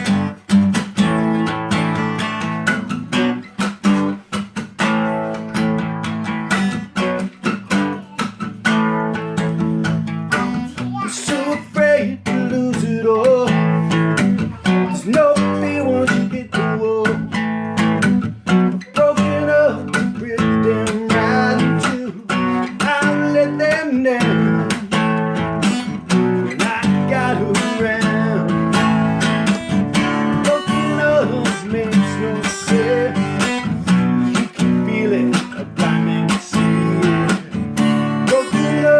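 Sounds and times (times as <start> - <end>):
acoustic guitar strumming: 0.0 - 38.9
picked guitar melody: 0.0 - 38.9.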